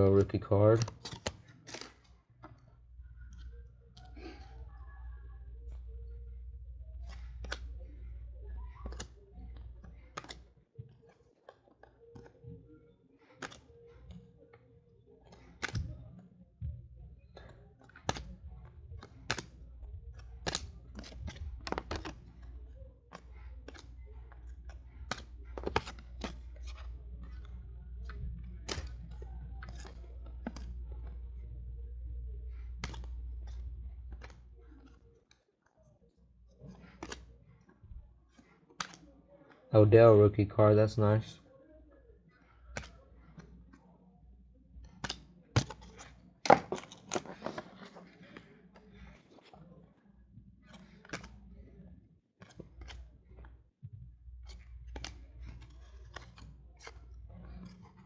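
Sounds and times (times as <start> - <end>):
cards flipping and sliding: 0.0 - 4.7, 5.5 - 12.7, 13.4 - 14.6, 15.2 - 16.3, 17.2 - 35.3, 36.5 - 39.2, 42.4 - 43.8, 44.8 - 51.7, 52.4 - 53.6, 54.2 - 58.0.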